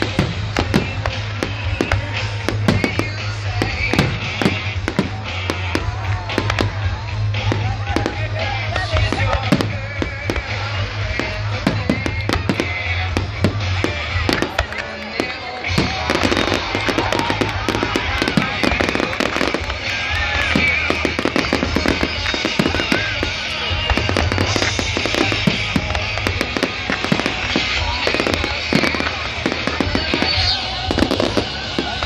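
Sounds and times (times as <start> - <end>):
fireworks bangs and crackles: 0.0 - 32.0
music playing: 0.0 - 32.0.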